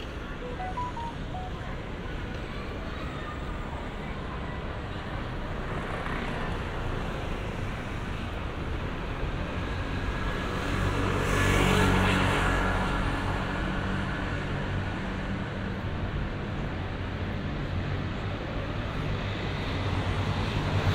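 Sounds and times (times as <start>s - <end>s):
city street ambience: 0.0s - 20.9s.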